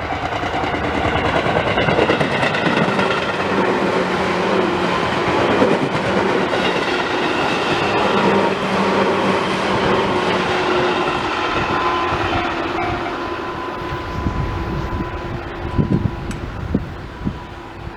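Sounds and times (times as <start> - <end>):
train wheels clattering over rails: 0.0 - 17.9.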